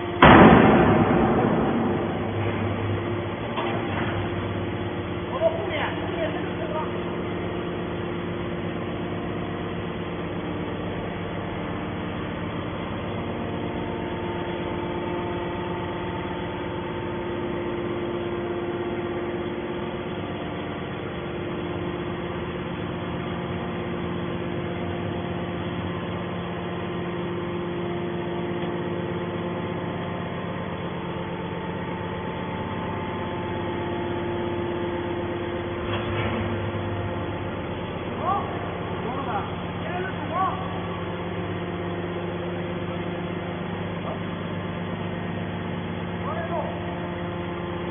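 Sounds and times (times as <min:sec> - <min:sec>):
hydraulic power unit humming: 0:00.0 - 0:47.9.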